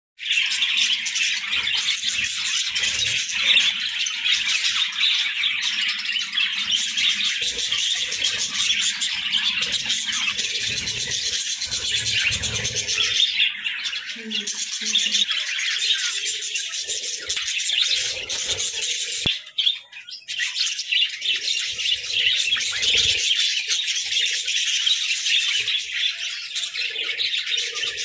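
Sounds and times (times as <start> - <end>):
budgerigars chattering and chirping: 0.2 - 28.0.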